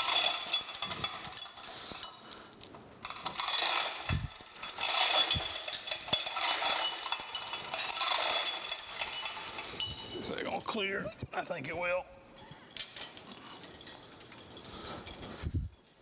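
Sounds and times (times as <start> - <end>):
hoist chain rattling and clinking: 0.0 - 11.0, 12.4 - 16.0.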